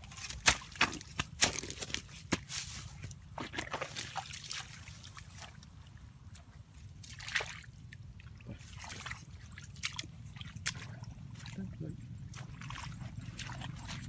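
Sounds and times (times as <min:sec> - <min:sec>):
hands splashing in muddy water: 0:00.0 - 0:05.7, 0:07.0 - 0:11.6, 0:12.3 - 0:14.0.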